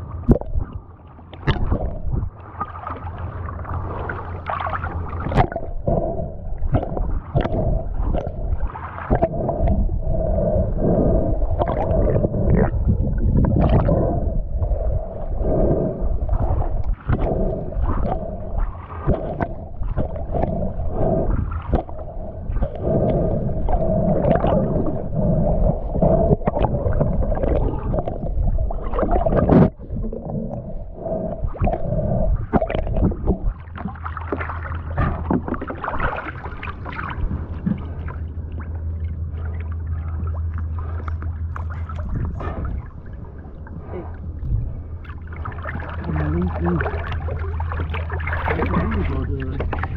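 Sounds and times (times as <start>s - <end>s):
steady low hum: 0.0s - 49.9s
water rushing and gurgling underwater: 0.0s - 49.9s.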